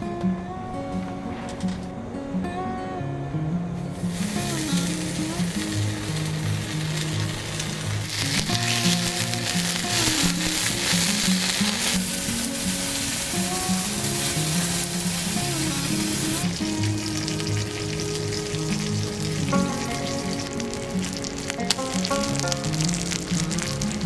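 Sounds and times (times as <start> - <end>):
background music: 0.0 - 24.0
food sizzling as it fries: 3.8 - 24.0.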